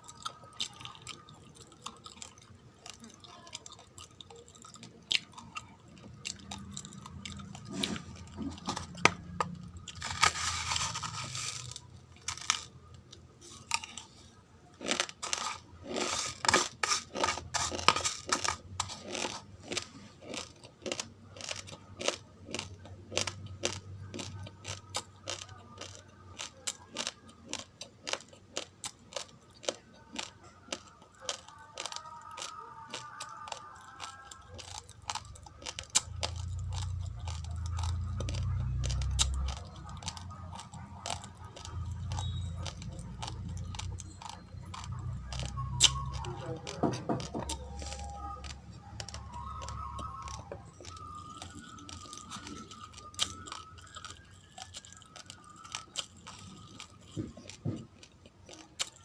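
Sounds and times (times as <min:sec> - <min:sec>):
raw rice crunching: 0:00.1 - 0:59.0.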